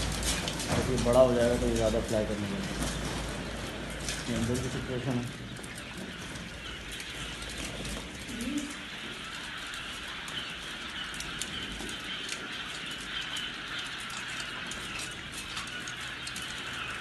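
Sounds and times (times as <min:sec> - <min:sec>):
quail chicks chirping: 0:00.0 - 0:17.0.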